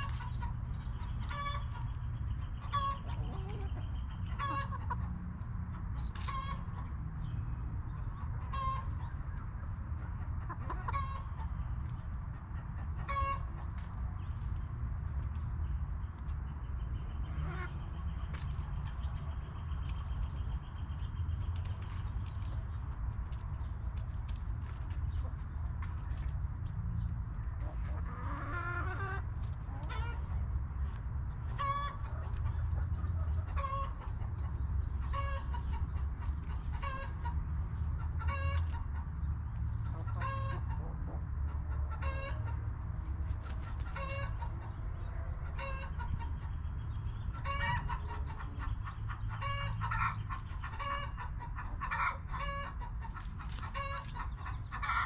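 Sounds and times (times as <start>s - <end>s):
hens clucking: 0.0s - 55.0s
steady low rumble: 0.0s - 55.0s.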